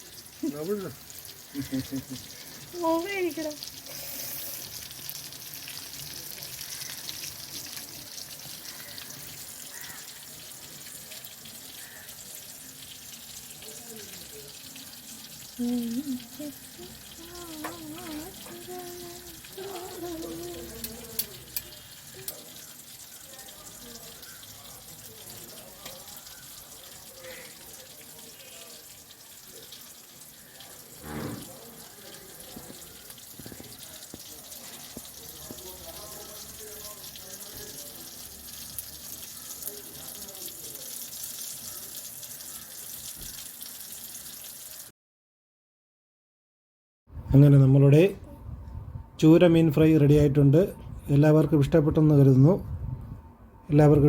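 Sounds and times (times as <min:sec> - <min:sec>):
fish sizzling in hot oil: 0:00.0 - 0:44.9.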